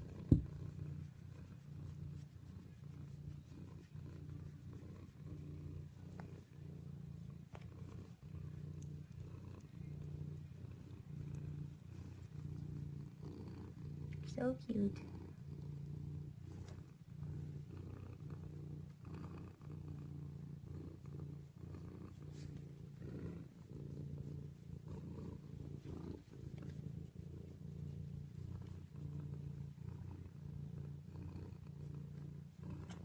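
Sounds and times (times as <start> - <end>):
cat purring: 0.0 - 33.0
faint rustles: 0.0 - 33.0.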